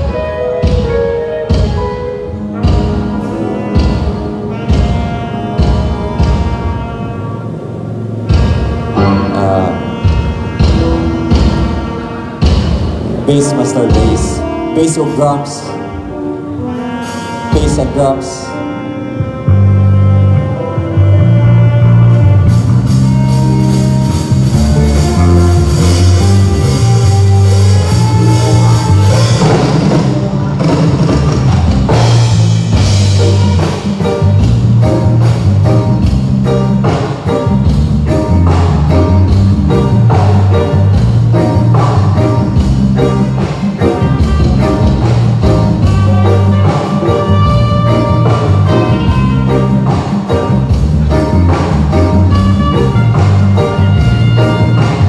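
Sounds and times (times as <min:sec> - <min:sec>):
drum kit beat: 0:00.0 - 0:15.4, 0:19.2 - 0:55.0
bass guitar line: 0:00.0 - 0:55.0
live band playing: 0:00.0 - 0:55.0.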